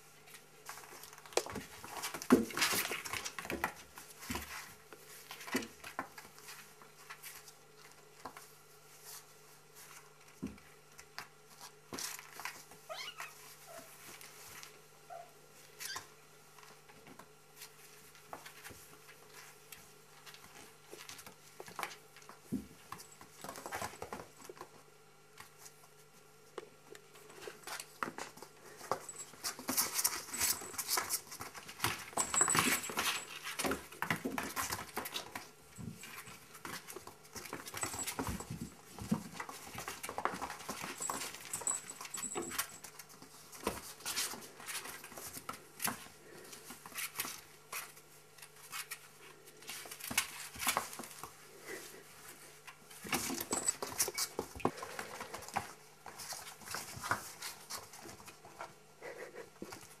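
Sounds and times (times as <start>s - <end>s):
kittens scuffling and scampering: 0.0s - 60.0s.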